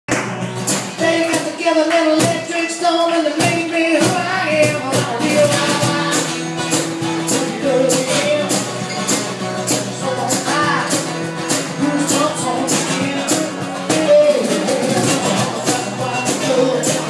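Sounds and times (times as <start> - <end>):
cajon beating a rhythm: 0.1 - 17.0
strummed acoustic guitar: 0.1 - 17.0
man singing: 0.9 - 17.0.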